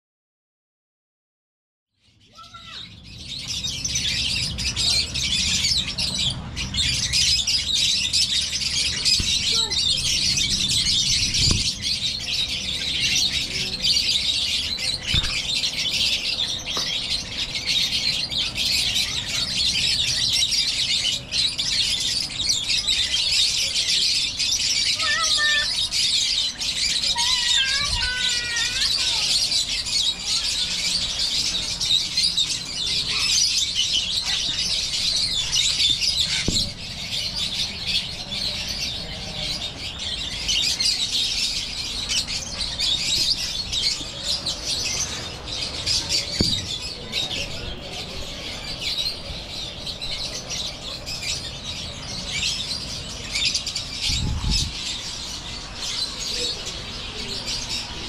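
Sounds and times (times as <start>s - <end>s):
flock of birds chattering: 2.0s - 58.0s.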